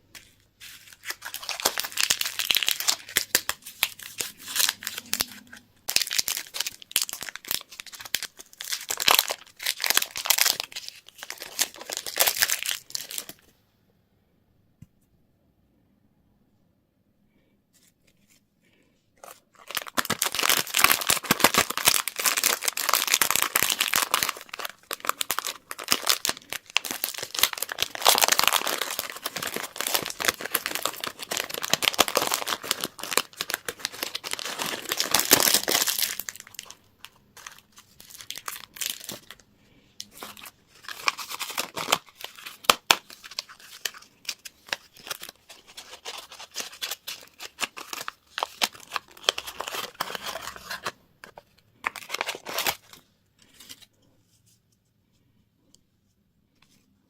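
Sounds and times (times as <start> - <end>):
candy wrapper tearing and crinkling: 0.1 - 13.4, 19.2 - 39.4, 40.0 - 53.9.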